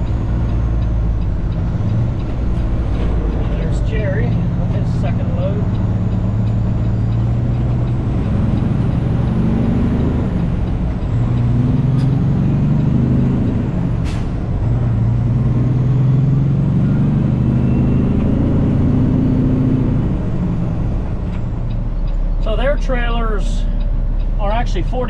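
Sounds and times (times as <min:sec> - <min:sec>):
truck diesel engine under load: 0:00.0 - 0:25.0.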